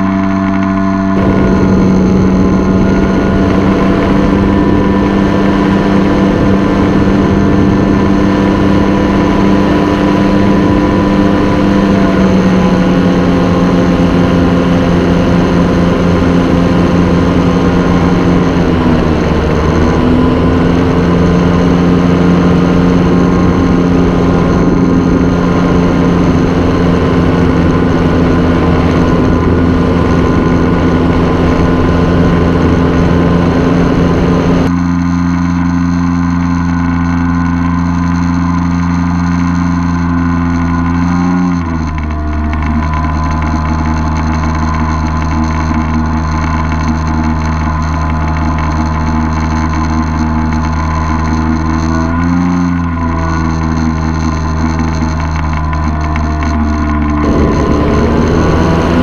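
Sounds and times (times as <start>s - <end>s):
paramotor engine and propeller: 0.0s - 59.0s.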